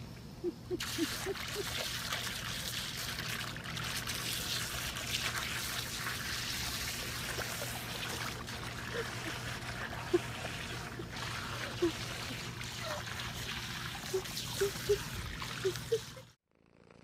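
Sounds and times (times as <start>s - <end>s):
water splashing and trickling: 0.8s - 16.4s.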